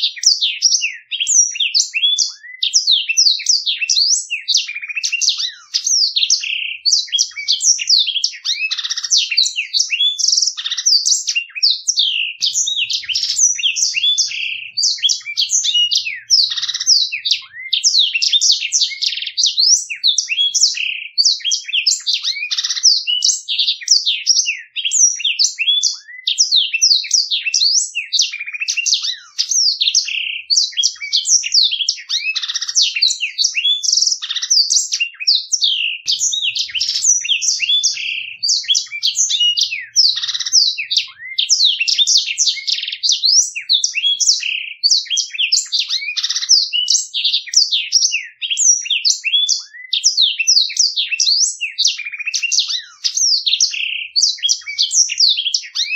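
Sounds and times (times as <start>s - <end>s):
canary singing: 0.0s - 55.9s.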